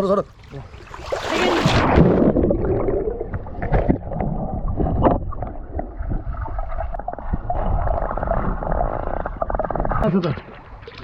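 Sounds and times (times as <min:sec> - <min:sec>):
low rumbling water rush: 0:00.0 - 0:11.0
water splashing and sloshing: 0:00.2 - 0:11.0.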